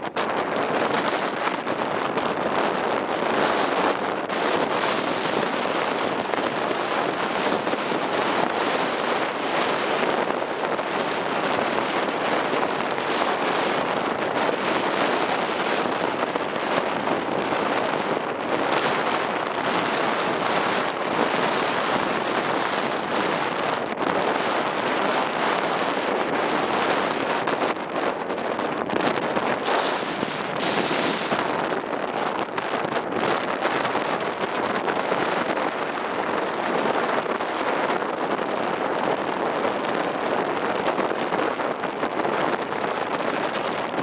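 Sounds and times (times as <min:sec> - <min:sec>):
strong wind buffeting microphone: 0:00.0 - 0:44.0.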